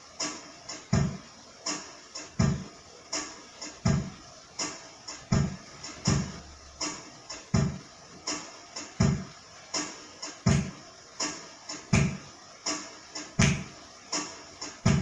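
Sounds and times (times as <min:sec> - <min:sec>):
electronic keyboard drum beat: 0:00.0 - 0:15.0.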